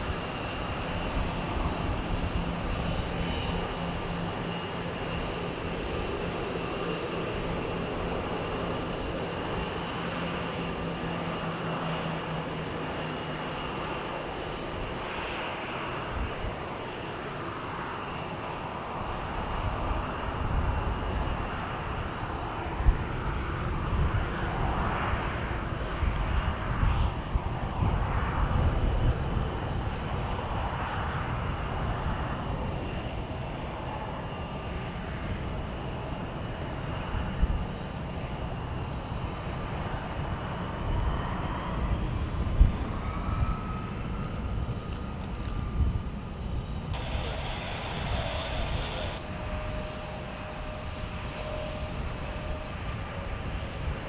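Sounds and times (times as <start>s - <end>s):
jet engines whining and rumbling: 0.0s - 54.0s.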